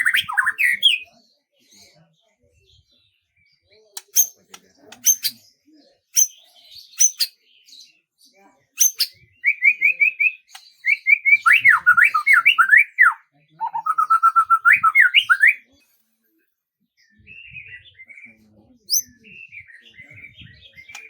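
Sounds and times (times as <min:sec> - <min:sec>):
songbird singing: 0:00.0 - 0:02.2, 0:02.8 - 0:16.0, 0:16.8 - 0:21.0
faint bird chirps: 0:00.0 - 0:21.0.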